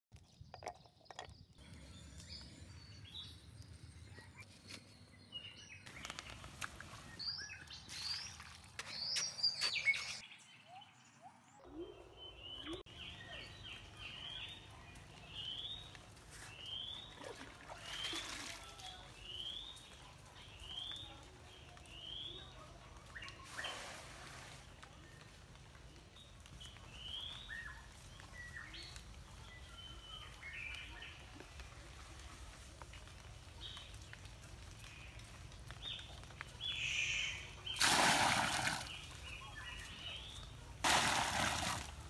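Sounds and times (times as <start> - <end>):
birds chirping: 0.1 - 42.0.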